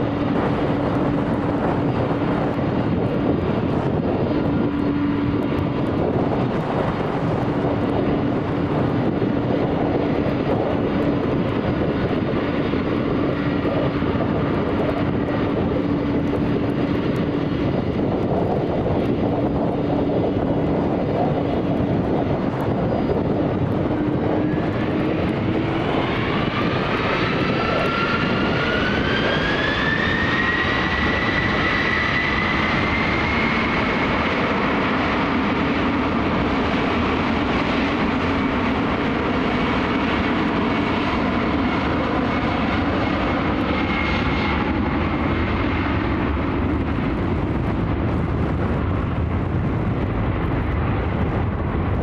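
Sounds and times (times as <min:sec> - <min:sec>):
jet engine whine rising: 0:00.0 - 0:52.0
jet engines roaring: 0:00.0 - 0:52.0.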